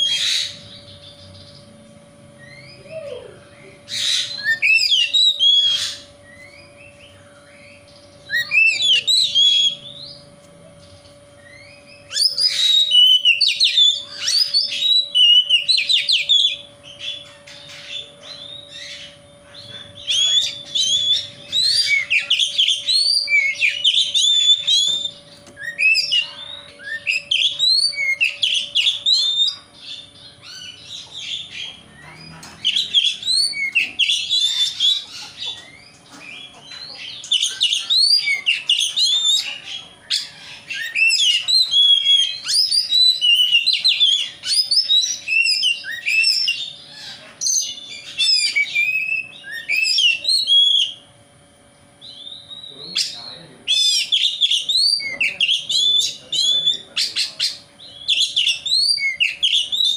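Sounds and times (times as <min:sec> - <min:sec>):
bird singing whistles and chirps: 0:02.4 - 0:35.1, 0:35.7 - 0:51.0, 0:52.0 - 0:59.9.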